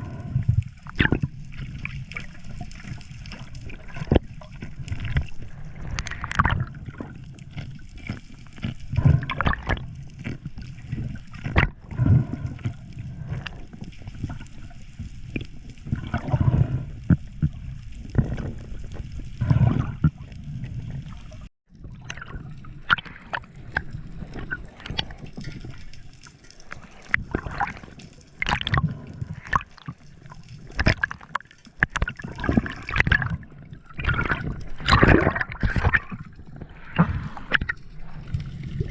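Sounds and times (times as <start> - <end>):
sea water sloshing and gurgling: 0.0 - 38.9.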